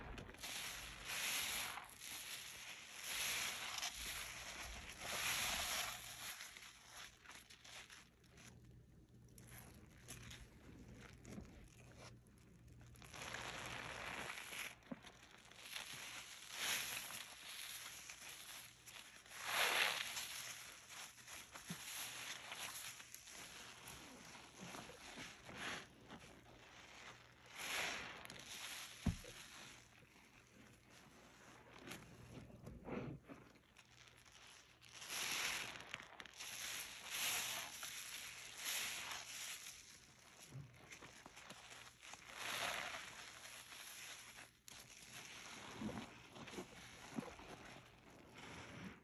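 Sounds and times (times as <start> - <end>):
small crackles: 0.0 - 49.0
sponge crinkling when squeezed: 0.0 - 49.0.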